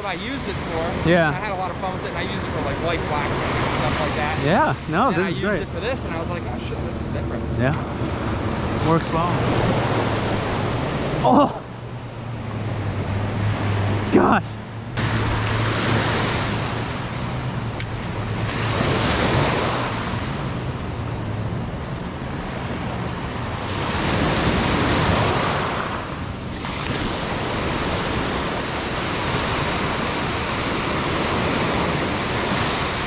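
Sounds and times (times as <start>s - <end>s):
waves washing up sand: 0.0s - 11.6s, 15.0s - 33.0s.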